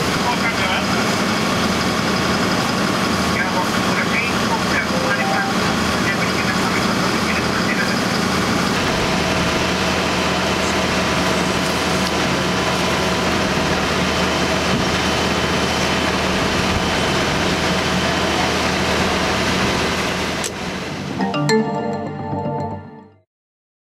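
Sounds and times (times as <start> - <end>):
vehicle engines and pumps droning: 0.0 - 21.3.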